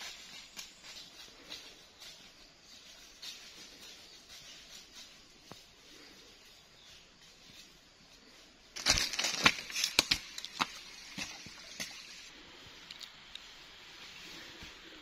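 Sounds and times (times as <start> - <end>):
footsteps on mud and leaves: 0.0 - 12.3
faint forest background: 0.0 - 15.0.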